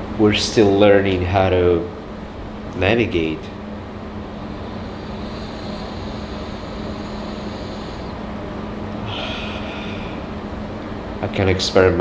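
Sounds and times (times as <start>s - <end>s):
mechanical drone hum: 0.0s - 12.0s.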